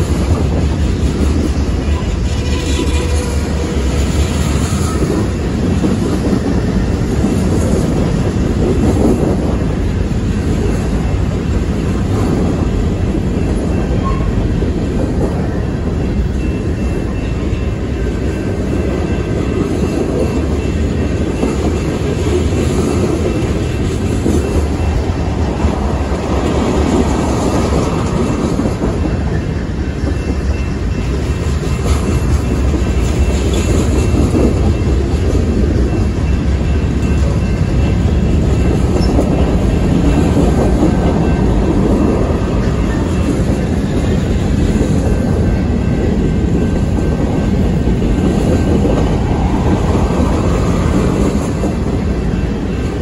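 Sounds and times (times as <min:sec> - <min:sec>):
train wheels running on rails: 0:00.0 - 0:53.0.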